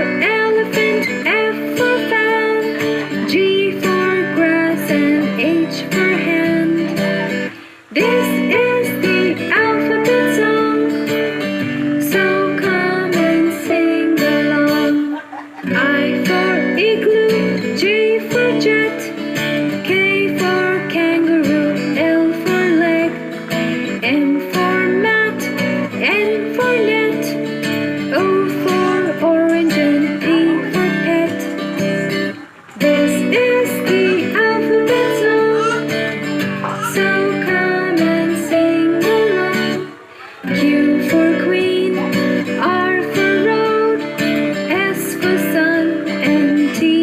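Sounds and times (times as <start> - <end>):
acoustic guitar strumming: 0.0 - 47.0
person singing: 0.0 - 47.0.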